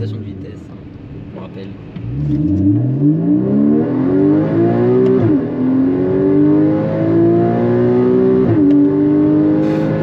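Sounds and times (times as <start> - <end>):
car engine accelerating hard: 1.9 - 10.0.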